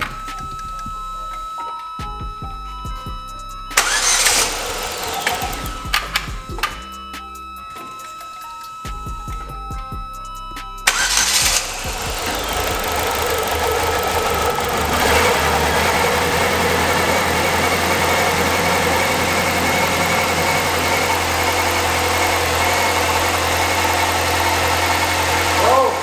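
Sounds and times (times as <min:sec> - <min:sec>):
car engine starting and idling: 0:03.4 - 0:08.1, 0:09.2 - 0:26.0.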